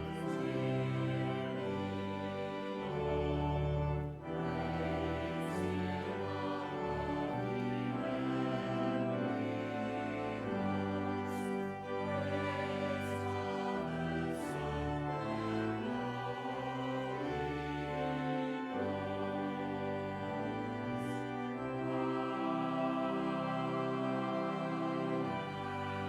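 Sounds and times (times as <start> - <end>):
choir singing held chords: 0.0 - 26.0
instrumental accompaniment: 0.0 - 26.0.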